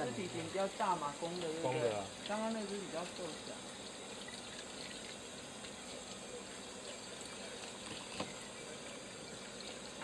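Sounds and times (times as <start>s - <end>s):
water running: 0.0s - 10.0s.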